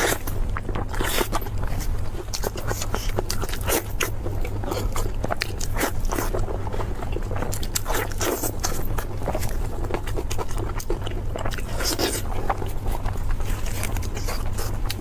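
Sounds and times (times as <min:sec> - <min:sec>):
person chewing crunchy food: 0:00.0 - 0:15.0
steady low hum: 0:00.0 - 0:15.0.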